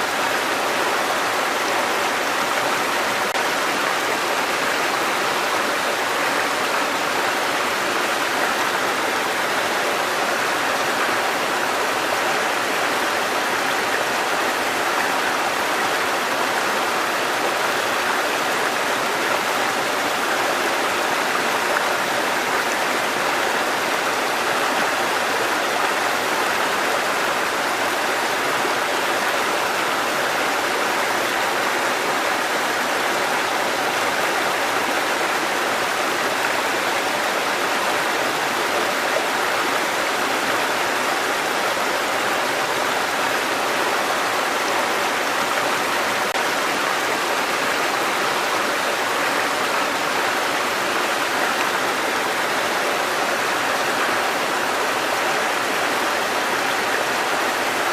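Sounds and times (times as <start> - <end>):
water cascading over rocks: 0.0 - 57.9.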